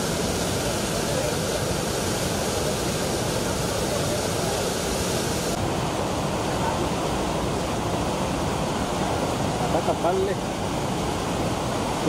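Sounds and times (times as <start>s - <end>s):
river water rushing and churning: 0.0s - 12.0s.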